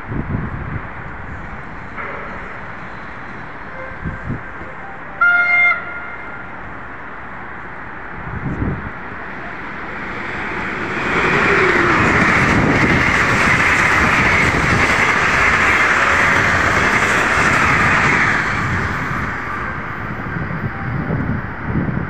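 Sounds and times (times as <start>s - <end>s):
high-speed train passing: 0.0s - 22.0s.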